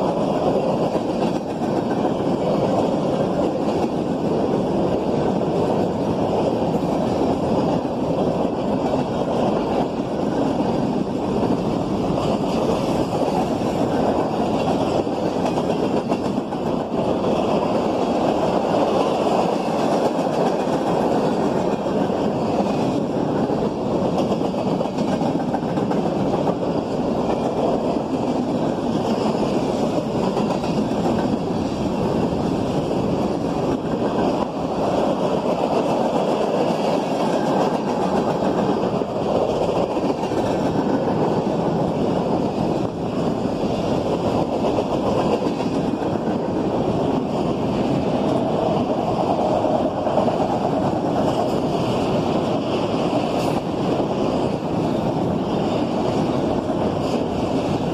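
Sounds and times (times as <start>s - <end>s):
steel wheels on rails: 0.0s - 57.9s.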